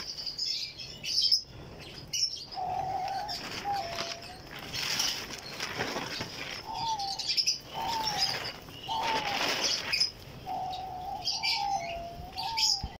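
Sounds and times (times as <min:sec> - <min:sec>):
birds calling: 0:00.0 - 0:12.9
high bird chirps: 0:00.0 - 0:12.9.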